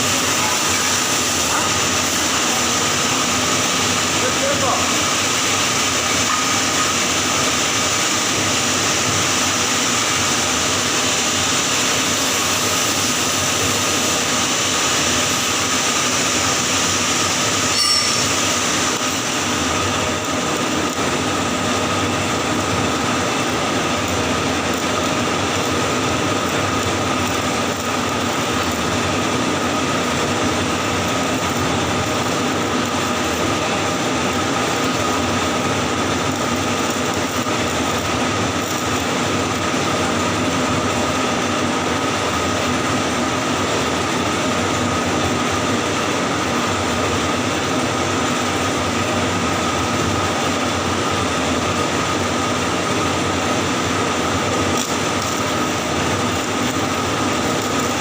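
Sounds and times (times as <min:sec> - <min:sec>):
welding arc crackling hiss: 0:00.0 - 0:58.0.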